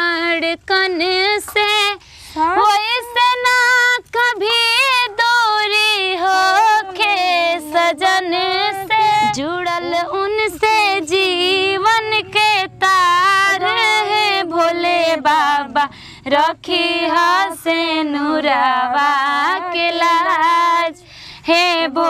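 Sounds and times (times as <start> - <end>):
woman singing: 0.0 - 22.0.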